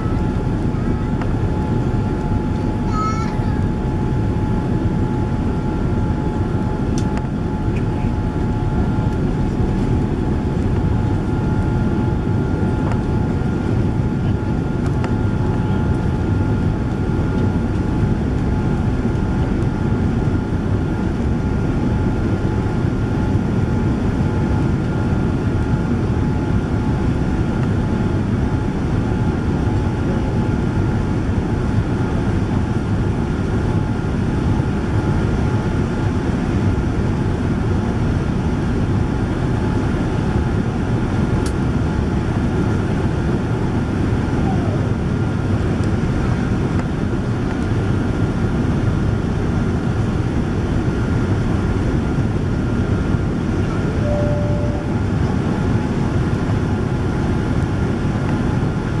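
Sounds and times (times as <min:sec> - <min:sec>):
deep roar of engines and airflow: 0:00.0 - 0:59.0
faint steady whining tones: 0:00.0 - 0:59.0.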